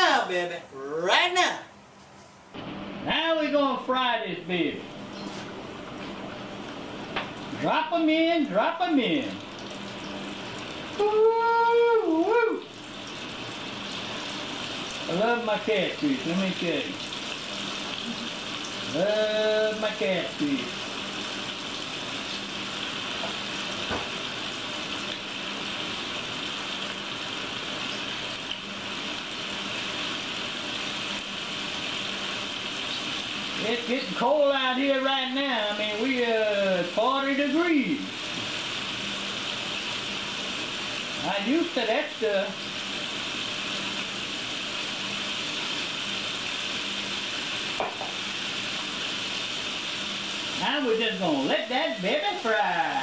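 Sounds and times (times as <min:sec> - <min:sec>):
fish deep-frying in oil: 0:04.9 - 0:53.0.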